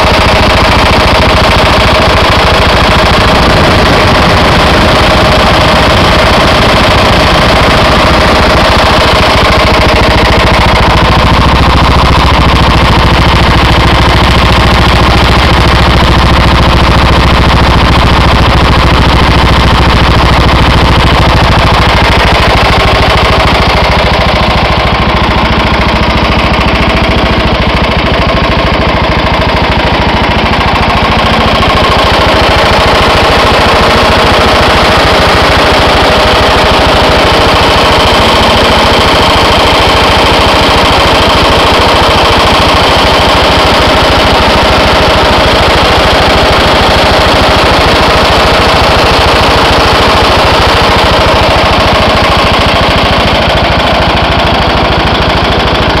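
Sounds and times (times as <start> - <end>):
engine running with rapid clatter: 0.0 - 56.0
low hum: 0.0 - 56.0.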